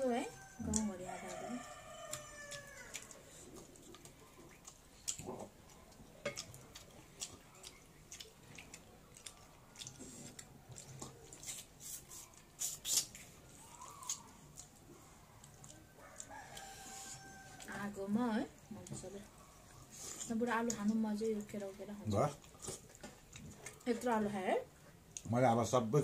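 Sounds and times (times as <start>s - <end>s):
wet chewing: 0.1s - 25.4s.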